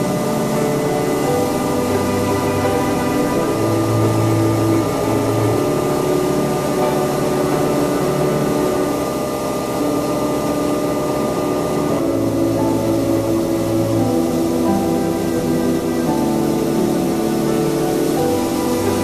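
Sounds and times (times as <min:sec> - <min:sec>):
ambient background music: 0:00.0 - 0:19.0.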